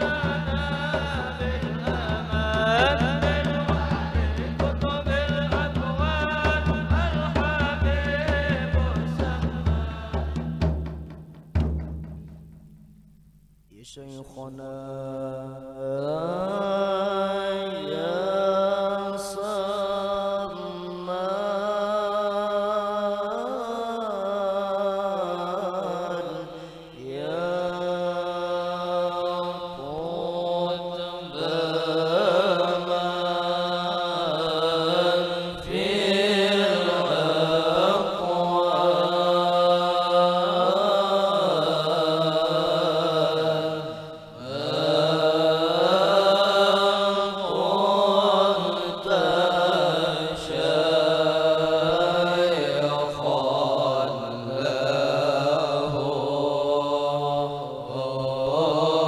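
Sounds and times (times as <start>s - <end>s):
men chanting in unison: 0.0s - 10.9s, 14.0s - 59.0s.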